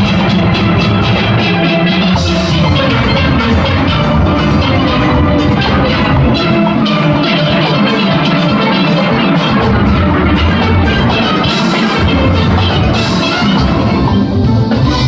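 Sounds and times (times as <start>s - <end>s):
drums keeping the beat: 0.0s - 15.0s
steelpans playing: 0.0s - 15.0s.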